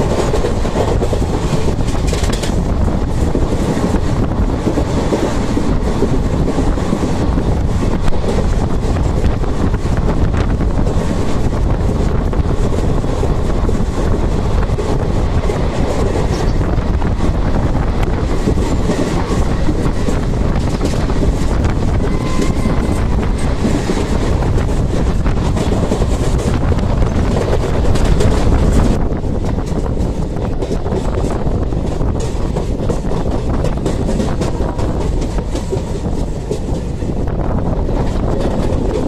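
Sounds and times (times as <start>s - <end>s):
faint track clacks: 0.0s - 39.0s
train wheels rumbling on rails: 0.0s - 39.0s.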